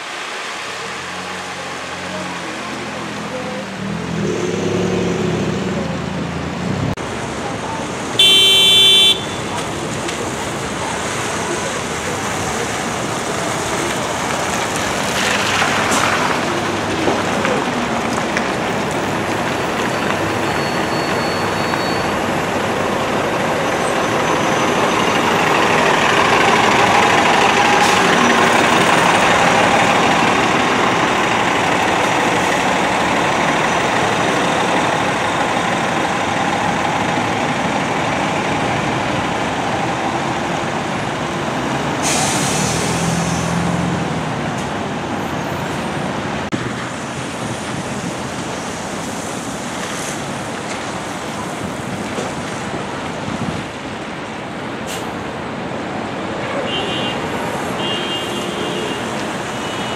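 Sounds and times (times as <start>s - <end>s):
traffic passing: 0.0s - 59.9s
tyres swishing on wet road: 0.0s - 59.9s.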